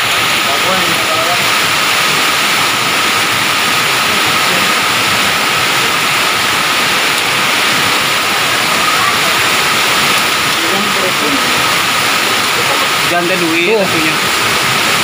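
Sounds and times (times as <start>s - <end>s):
heavy rain and hail: 0.0s - 15.0s
strong wind: 0.0s - 15.0s.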